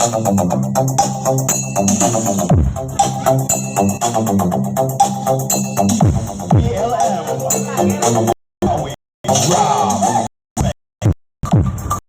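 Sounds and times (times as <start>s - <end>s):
electronic dance music: 0.0s - 10.8s.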